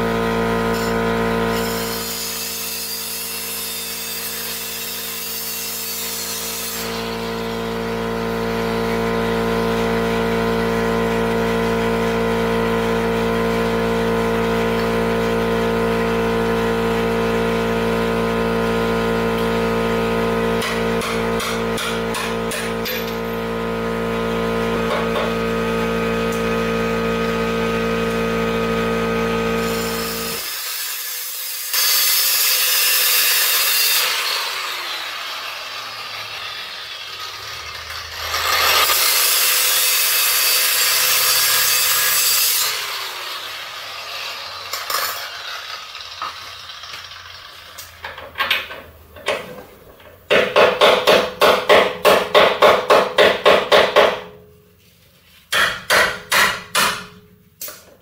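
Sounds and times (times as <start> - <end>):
angle grinder cutting steel: 0.0 - 49.4.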